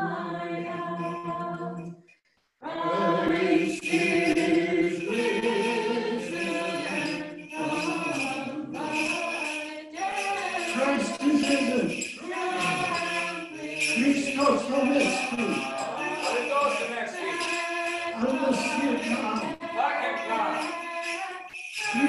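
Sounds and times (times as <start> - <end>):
choir singing a hymn: 0.0 - 1.9, 2.6 - 22.0.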